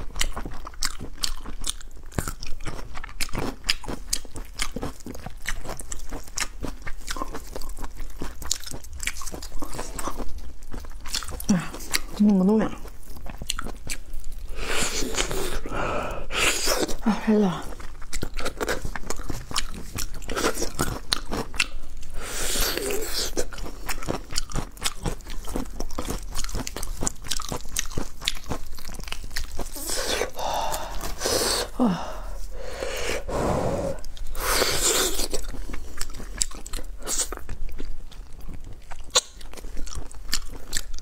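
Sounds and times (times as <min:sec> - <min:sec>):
chewing and mouth smacks: 0:00.0 - 0:15.7, 0:17.7 - 0:31.7, 0:34.0 - 0:41.0.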